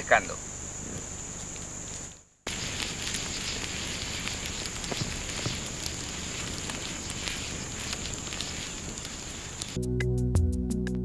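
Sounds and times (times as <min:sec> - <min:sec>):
open fire crackling: 0:00.1 - 0:09.8.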